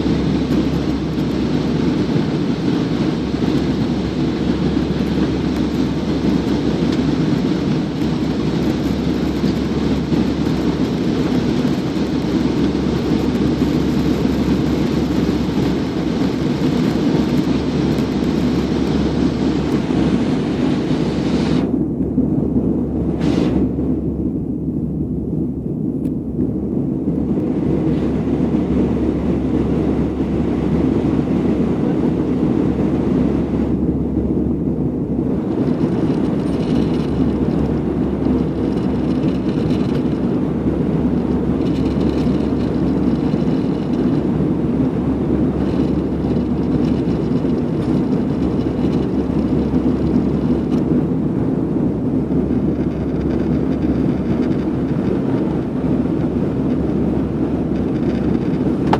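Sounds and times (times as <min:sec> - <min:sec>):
jet engines rumbling: 0:00.0 - 0:58.9.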